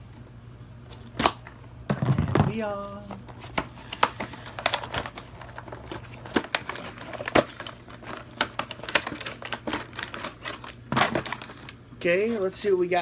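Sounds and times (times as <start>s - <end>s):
cardboard and plastic packaging crinkling: 2.0s - 12.8s.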